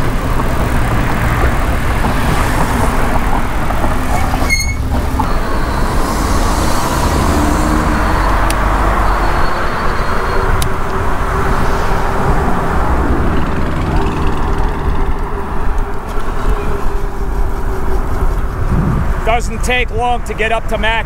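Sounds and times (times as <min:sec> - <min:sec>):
car traffic passing: 0:00.0 - 0:21.0
wind rushing over microphone: 0:00.0 - 0:21.0.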